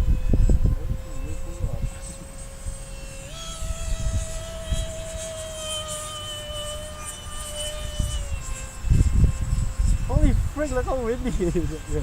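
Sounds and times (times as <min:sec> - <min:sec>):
model plane motor whining: 0:00.0 - 0:12.0
wind buffeting microphone: 0:00.0 - 0:12.0.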